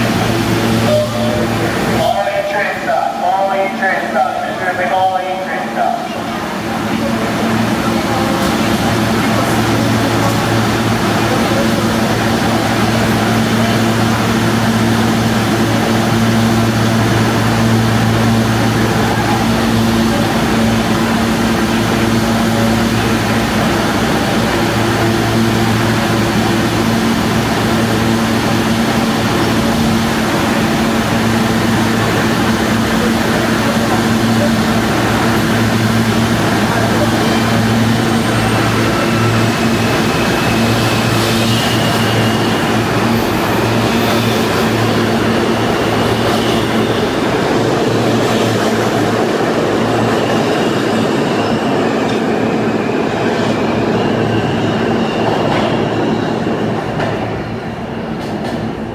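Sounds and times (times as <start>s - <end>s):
subway car equipment hum: 0.0s - 58.9s.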